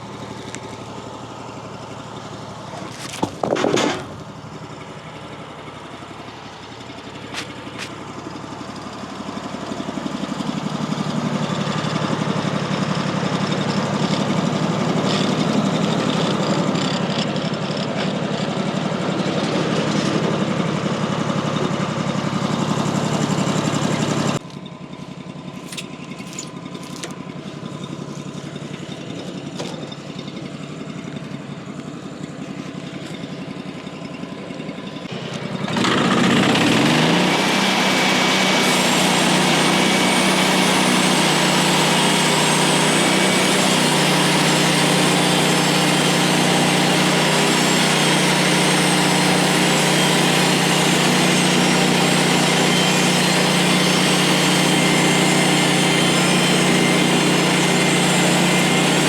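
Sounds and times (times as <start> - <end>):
sawmill gas engine running: 0.0 - 59.0.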